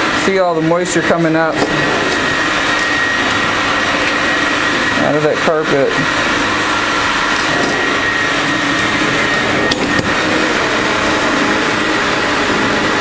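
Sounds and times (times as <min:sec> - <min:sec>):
carpet water extractor running: 0:00.0 - 0:13.0.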